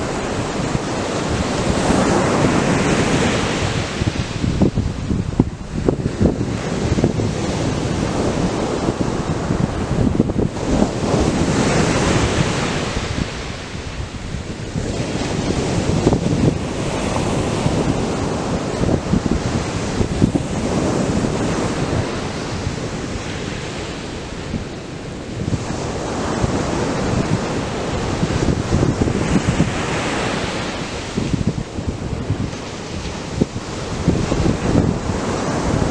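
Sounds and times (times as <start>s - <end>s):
waves crashing on beach: 0.0s - 35.9s
wind buffeting microphone: 0.0s - 35.9s.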